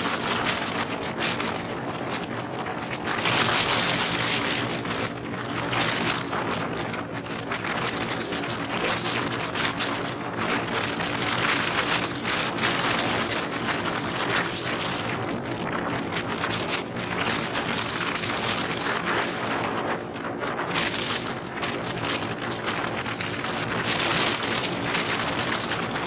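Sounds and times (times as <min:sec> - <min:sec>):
wind buffeting on microphone: 0:00.0 - 0:26.0.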